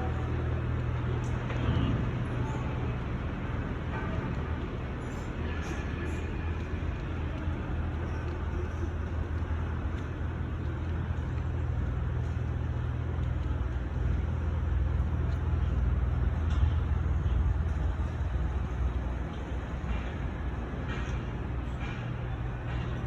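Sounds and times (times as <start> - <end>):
heavy vehicle engine rumbling: 0.0 - 23.0.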